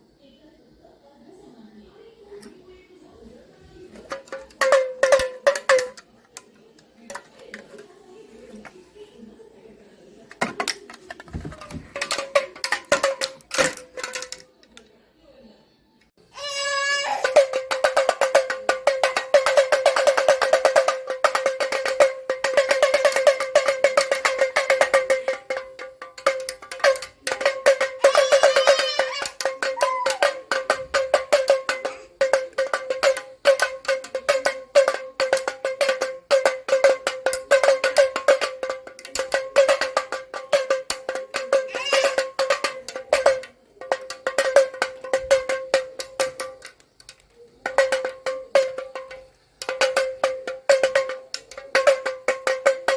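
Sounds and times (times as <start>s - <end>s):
hand drum beads rattling: 3.9s - 7.9s, 10.4s - 14.6s, 17.0s - 52.9s.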